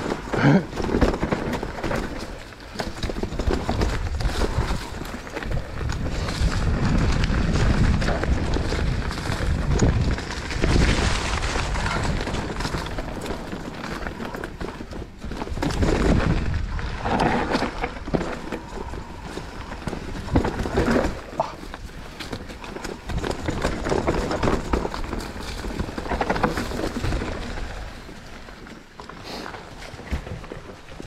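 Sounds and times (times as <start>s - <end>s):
bike rattling and knocking: 0.0s - 31.0s
bike tyres on dirt: 0.0s - 31.0s
wind rumble on microphone: 1.0s - 28.5s.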